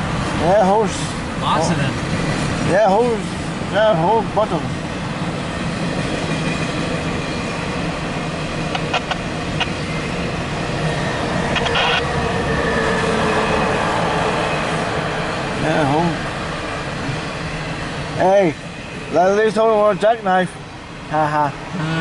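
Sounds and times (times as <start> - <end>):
freight train wheels rumbling on track: 0.0 - 21.9.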